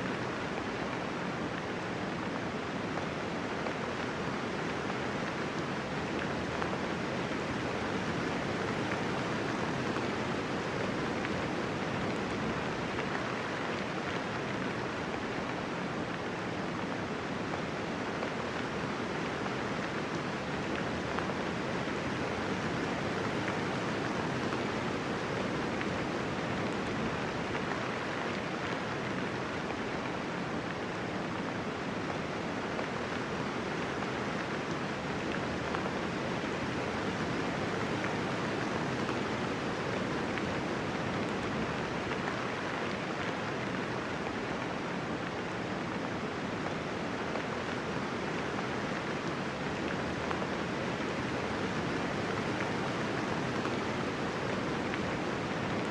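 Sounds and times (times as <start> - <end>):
steady rainfall: 0.0 - 55.9.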